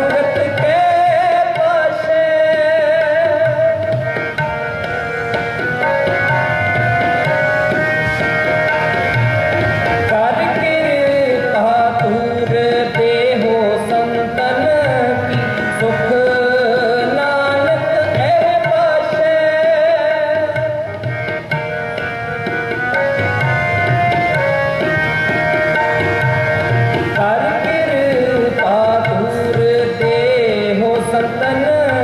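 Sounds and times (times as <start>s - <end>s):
harmonium chords: 0.0s - 32.0s
tabla beat: 0.0s - 32.0s.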